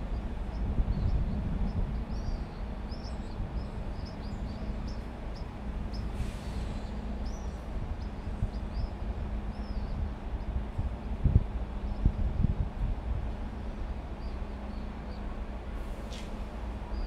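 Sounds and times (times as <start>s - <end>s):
small birds chirping: 0.0s - 12.4s, 13.8s - 15.4s
electric train rumbling: 0.0s - 17.0s.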